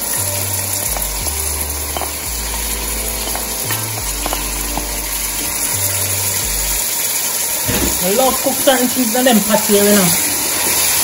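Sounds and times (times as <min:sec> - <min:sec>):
oil sizzling in pot: 0:00.0 - 0:11.0.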